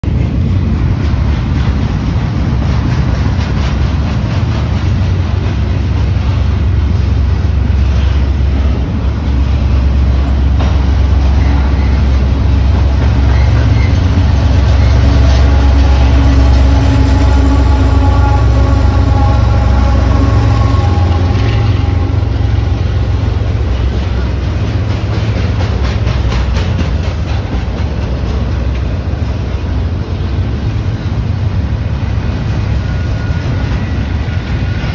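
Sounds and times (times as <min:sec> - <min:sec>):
diesel locomotive engine drone: 0:00.0 - 0:34.9
train wheels rumbling on rail: 0:00.0 - 0:34.9.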